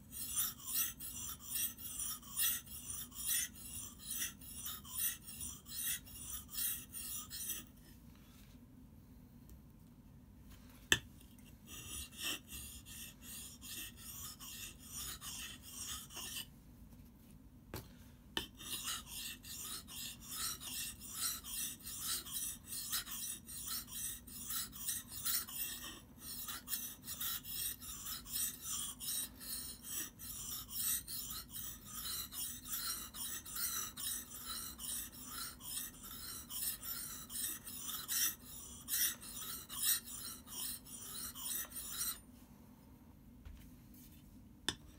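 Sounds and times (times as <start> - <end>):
blade rasping on whetstone: 0.0 - 7.7, 11.7 - 16.5, 18.4 - 42.2.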